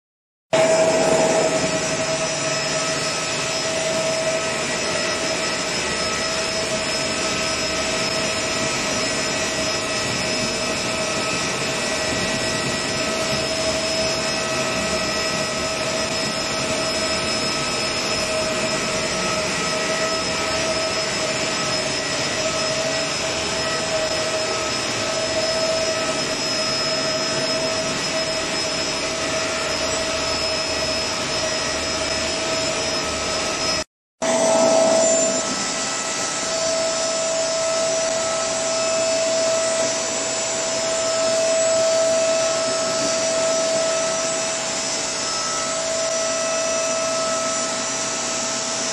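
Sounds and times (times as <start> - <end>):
grinding machine whining: 0.6 - 48.9.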